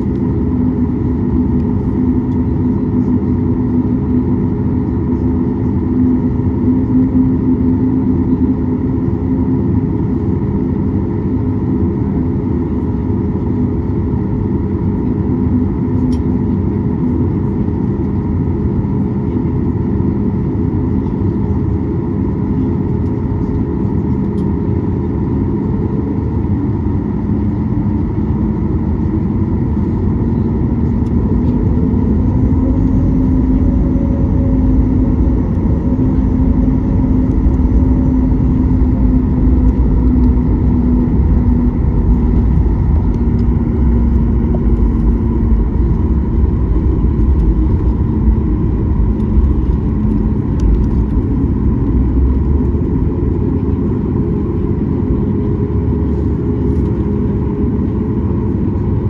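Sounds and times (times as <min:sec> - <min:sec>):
airliner cabin engine hum: 0:00.0 - 0:59.0.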